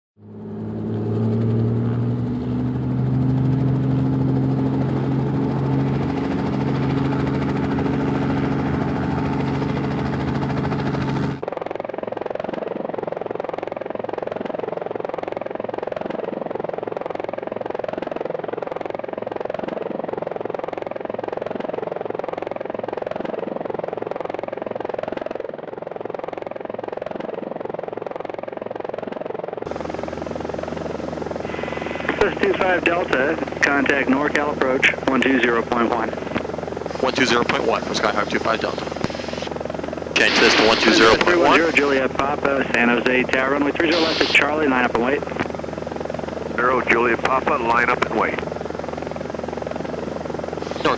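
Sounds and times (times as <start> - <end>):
aircraft propeller drone: 0.2 - 50.9.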